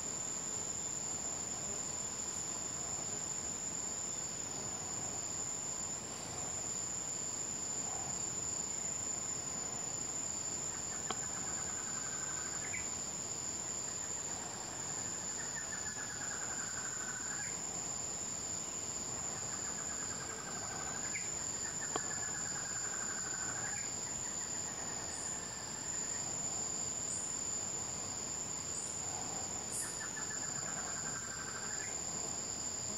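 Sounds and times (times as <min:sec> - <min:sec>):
insect drone: 0:00.0 - 0:32.9.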